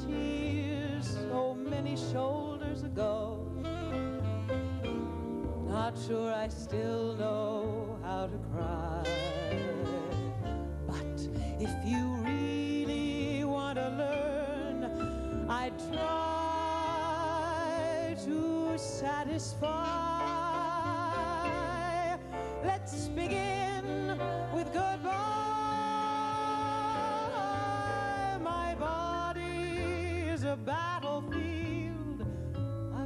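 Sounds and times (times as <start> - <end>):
woman singing blues: 0.0 - 4.3, 5.1 - 33.0
double bass: 0.0 - 33.0
piano: 0.0 - 33.0.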